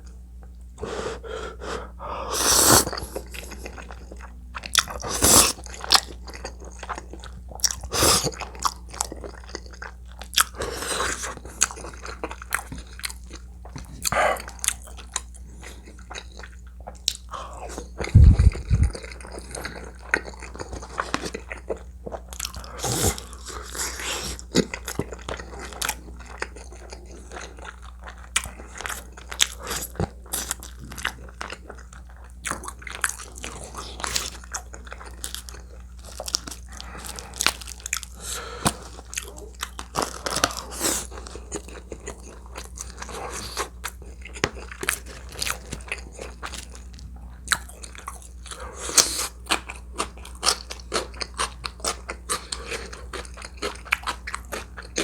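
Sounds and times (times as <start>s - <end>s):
low electrical hum: 0.0s - 55.0s
chewing and crunching food: 2.8s - 55.0s.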